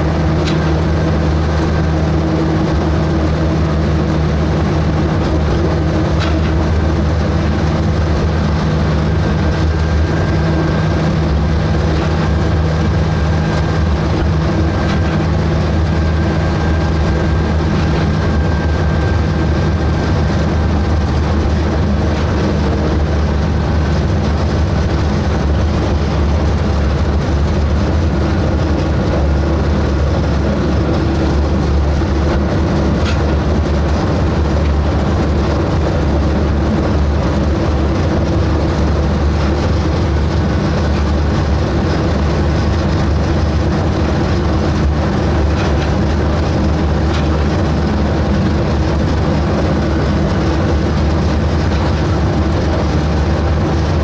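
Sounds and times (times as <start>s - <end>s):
locomotive engine low hum: 0.0s - 54.0s.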